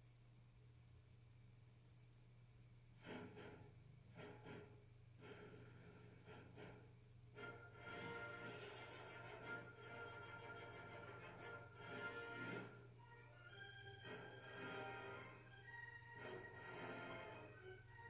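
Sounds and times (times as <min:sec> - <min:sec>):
faint film score from speaker: 0:03.0 - 0:18.0.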